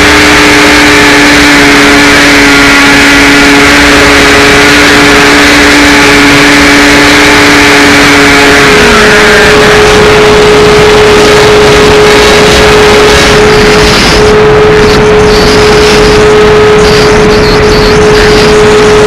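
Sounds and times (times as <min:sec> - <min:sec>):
electric motor whining: 0:00.0 - 0:19.0
wind rush on microphone: 0:00.0 - 0:19.0.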